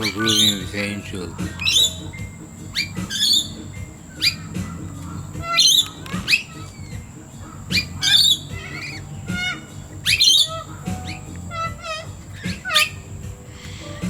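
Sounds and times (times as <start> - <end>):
background music: 0.0 - 14.0
birds squawking and chirping: 0.0 - 14.0.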